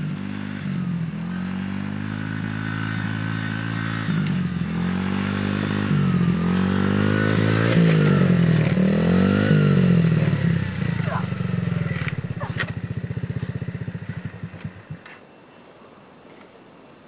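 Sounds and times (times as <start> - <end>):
dirt bike engine revving: 0.0 - 15.1.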